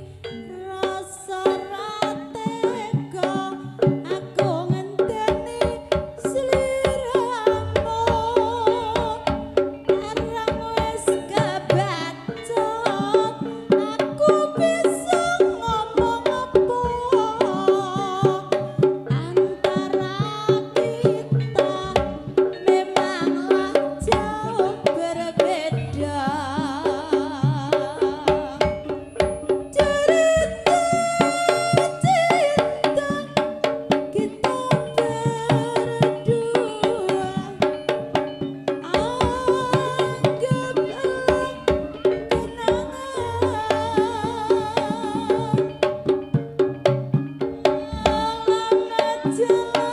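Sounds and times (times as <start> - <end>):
hand drums beating: 0.0 - 49.9
wavering vibrato melody: 0.0 - 49.9.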